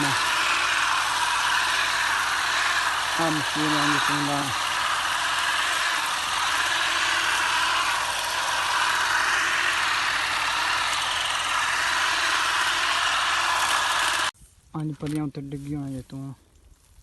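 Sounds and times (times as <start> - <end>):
electric olive harvester running: 0.0 - 14.3.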